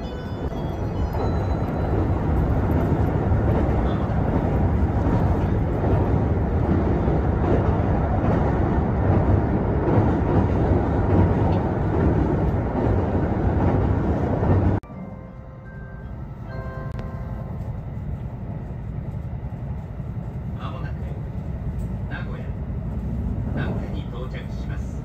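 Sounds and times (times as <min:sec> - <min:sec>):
train wheels rumbling on rails: 0:00.0 - 0:14.8, 0:16.3 - 0:25.0.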